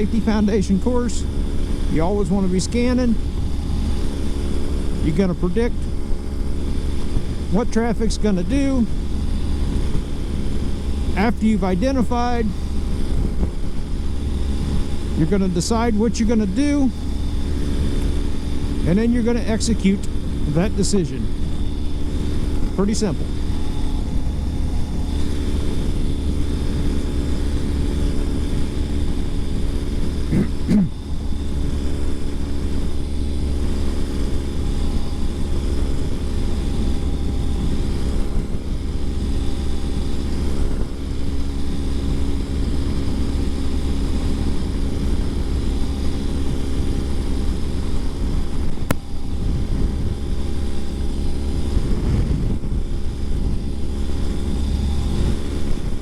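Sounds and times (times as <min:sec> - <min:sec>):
motorcycle engine running: 0:00.0 - 0:56.0
short whine: 0:00.0 - 0:56.0.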